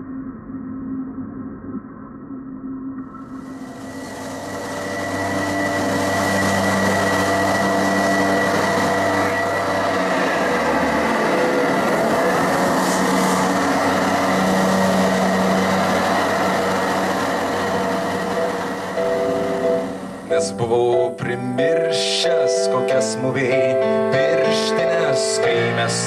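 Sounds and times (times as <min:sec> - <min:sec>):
experimental drone over loudspeaker: 0:03.0 - 0:26.0.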